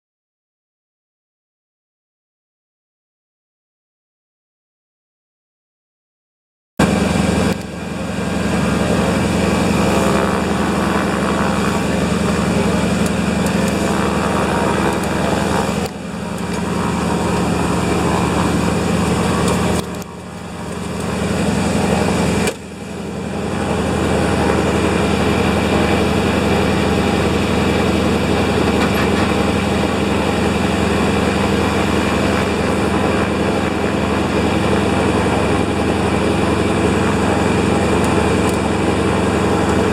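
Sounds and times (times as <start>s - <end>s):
floatplane engine and propeller: 6.8s - 39.9s.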